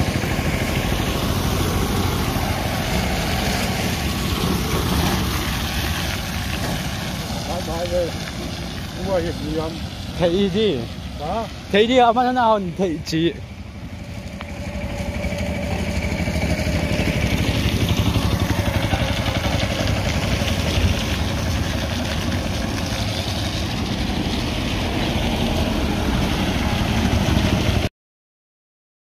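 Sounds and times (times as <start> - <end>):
vehicle engine rumble: 0.0 - 27.9.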